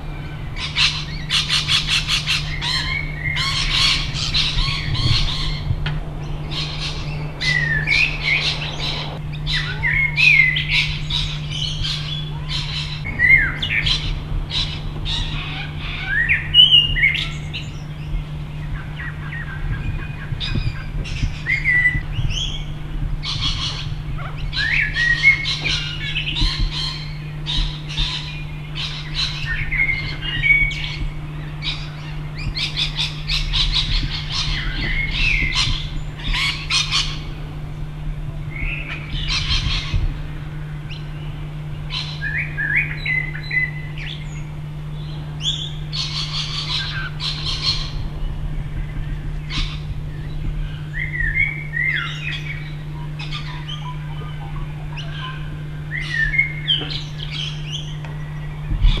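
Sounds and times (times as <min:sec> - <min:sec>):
birds chirping and calling: 0:00.0 - 0:59.0
steady low hum: 0:00.0 - 0:59.0.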